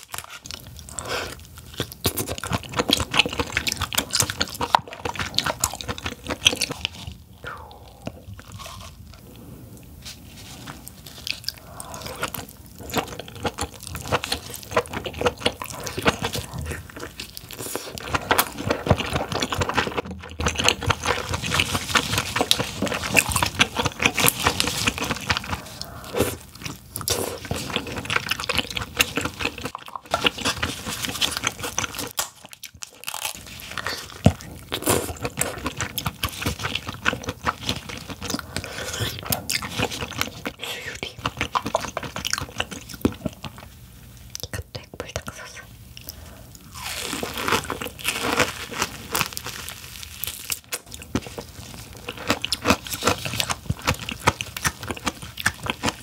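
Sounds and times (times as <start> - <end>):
wet chewing and crunching: 0.0 - 44.7, 45.4 - 56.0.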